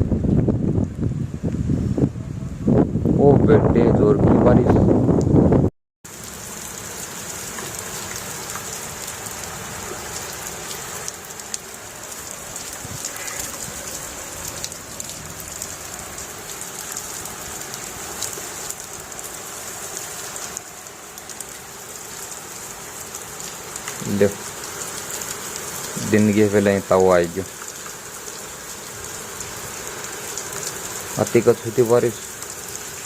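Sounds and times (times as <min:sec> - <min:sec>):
heavy rain falling: 0:06.1 - 0:33.0.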